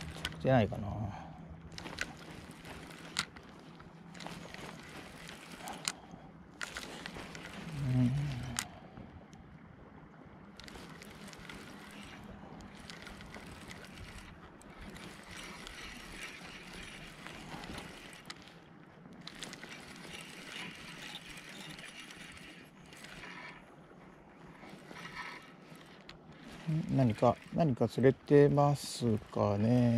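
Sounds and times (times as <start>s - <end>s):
spinning reel winding: 0.0s - 0.5s, 1.7s - 6.0s, 6.6s - 8.7s, 10.6s - 18.6s, 19.2s - 23.7s, 24.4s - 29.9s.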